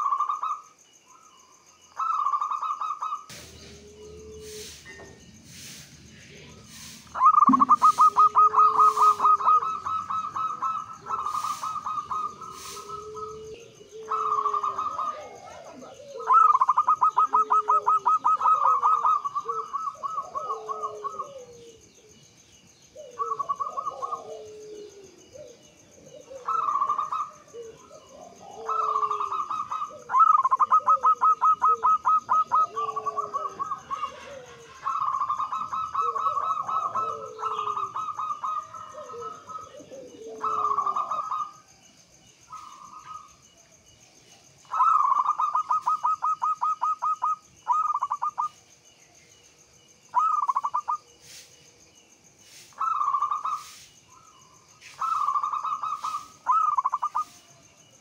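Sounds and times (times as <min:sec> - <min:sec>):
doves cooing with trilled notes: 0:00.0 - 0:51.6, 0:52.4 - 0:58.0.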